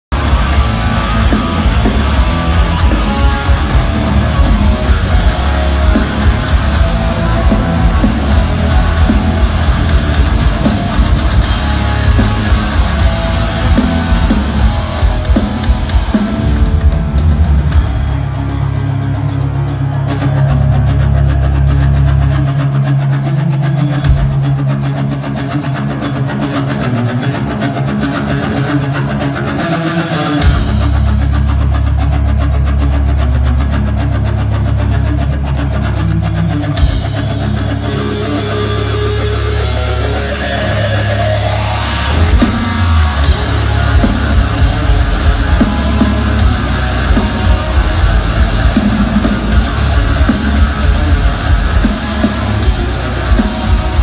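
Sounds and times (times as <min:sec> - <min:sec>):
heavy electric guitars: 0:00.0 - 0:54.0
pounding drum kit: 0:00.1 - 0:54.0.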